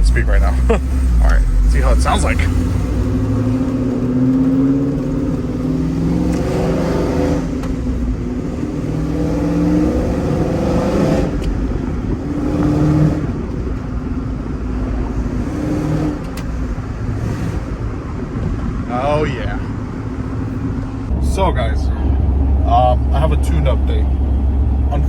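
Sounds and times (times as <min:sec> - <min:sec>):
pickup truck engine accelerating: 0:00.0 - 0:25.0.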